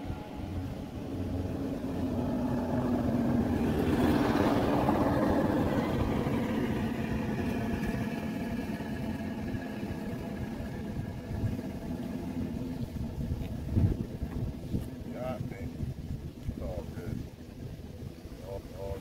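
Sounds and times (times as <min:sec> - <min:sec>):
engine passing by: 0:00.0 - 0:19.0.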